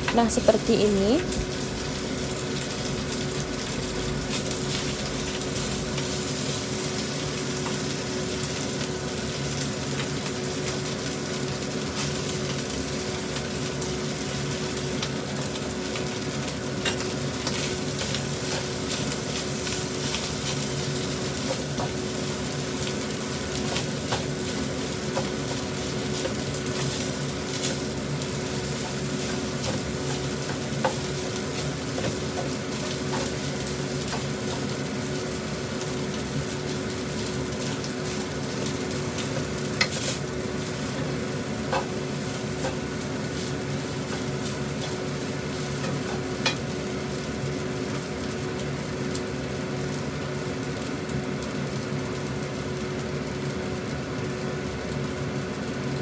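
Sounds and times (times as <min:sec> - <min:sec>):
rice sizzling in a wok: 0:00.0 - 0:56.0.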